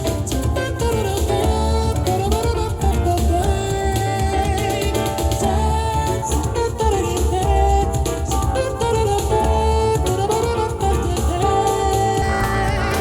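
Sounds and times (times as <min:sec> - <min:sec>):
music through speaker: 0:00.0 - 0:13.0.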